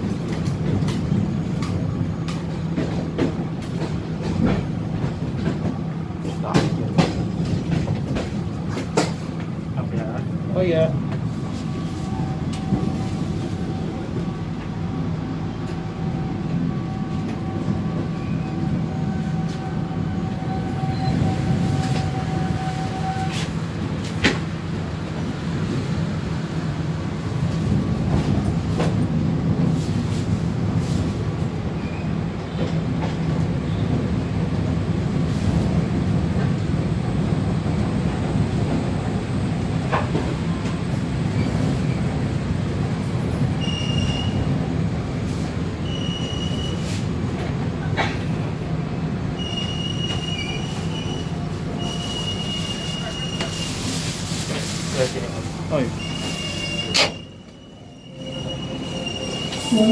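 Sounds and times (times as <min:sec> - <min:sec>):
train rolling over rails: 0:00.0 - 0:59.9.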